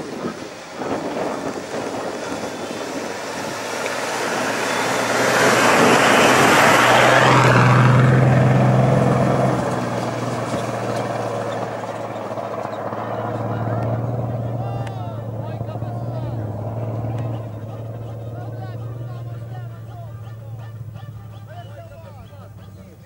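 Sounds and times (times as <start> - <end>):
car engine running: 0.0 - 23.0
tyres crunching on gravel: 0.1 - 23.0.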